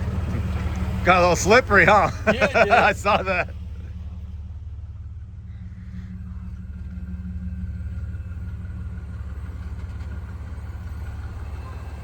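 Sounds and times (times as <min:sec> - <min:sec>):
engine running with deep rumble: 0:00.0 - 0:12.0.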